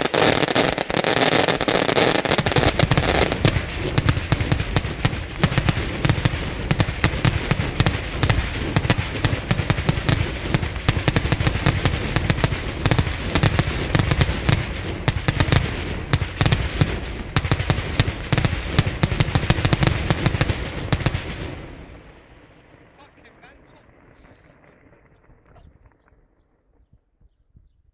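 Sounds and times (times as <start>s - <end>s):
firework barrage of loud bangs: 0.0s - 26.4s.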